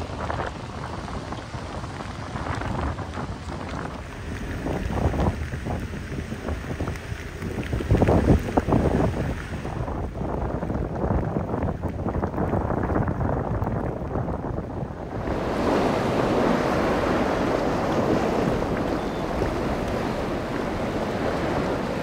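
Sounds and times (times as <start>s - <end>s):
boats in rough water: 0.0s - 22.0s
wind buffeting microphone: 0.0s - 22.0s.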